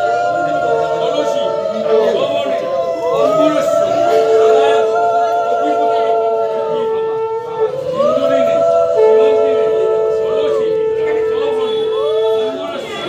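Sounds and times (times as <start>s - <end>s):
conch shells blown: 0.0s - 13.0s.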